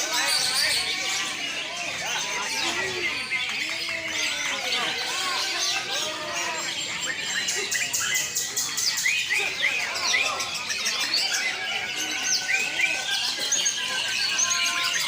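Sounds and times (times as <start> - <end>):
birds singing in chorus: 0.0 - 15.0.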